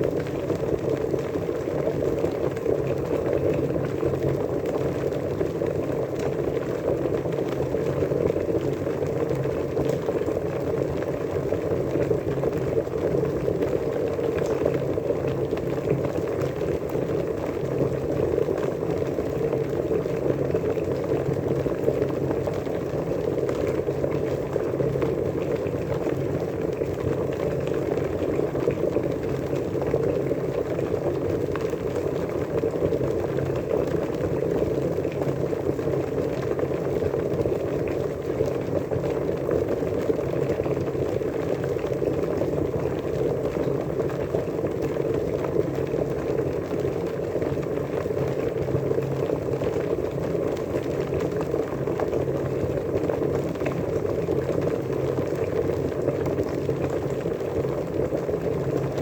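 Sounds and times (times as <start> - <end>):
water boiling: 0.0 - 59.0.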